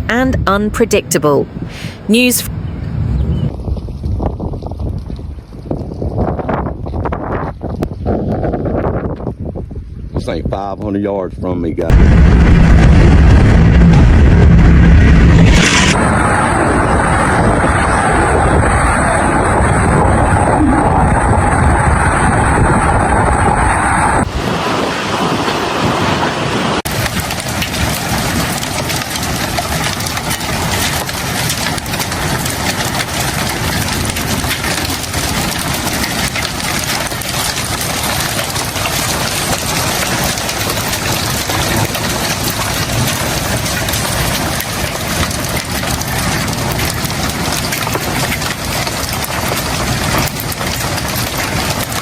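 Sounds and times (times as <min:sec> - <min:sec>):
wind roaring: 0:01.4 - 0:10.4, 0:11.9 - 0:52.0
rain: 0:02.5 - 0:08.0, 0:11.9 - 0:52.0.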